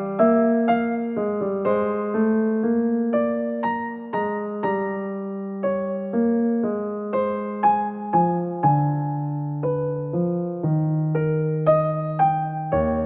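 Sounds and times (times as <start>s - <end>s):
slow gentle piano piece: 0.0s - 13.0s.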